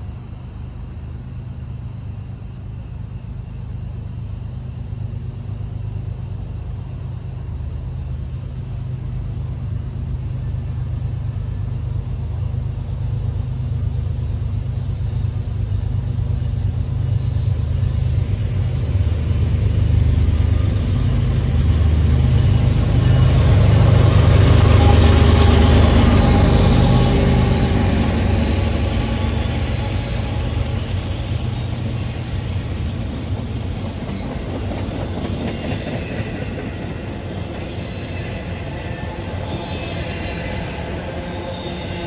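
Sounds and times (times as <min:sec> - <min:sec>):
train passing with low rumble: 0:00.0 - 0:42.0.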